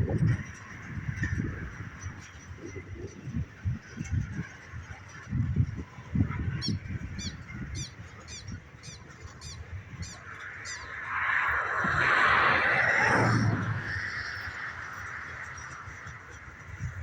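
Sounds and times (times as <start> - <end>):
loud steady rushing noise: 0.0 - 17.0.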